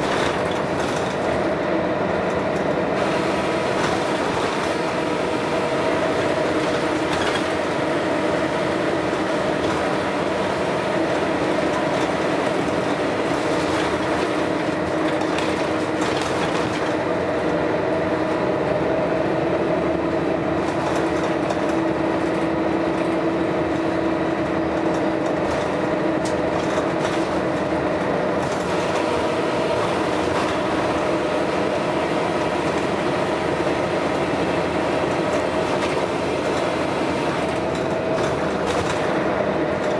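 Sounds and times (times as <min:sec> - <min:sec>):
bus diesel engine drone: 0:00.0 - 0:39.9
bus panels rattling: 0:02.2 - 0:17.1, 0:20.6 - 0:39.9.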